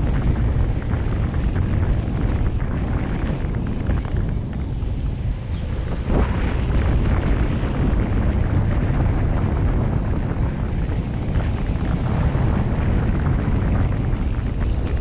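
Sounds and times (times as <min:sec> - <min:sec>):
car road noise: 0:00.0 - 0:15.0.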